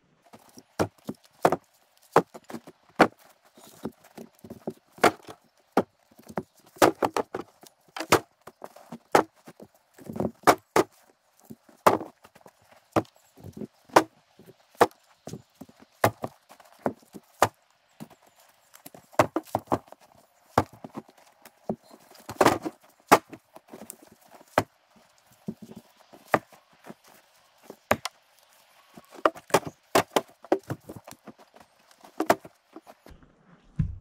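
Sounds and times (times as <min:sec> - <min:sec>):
wooden logs clunking: 0:00.2 - 0:34.0.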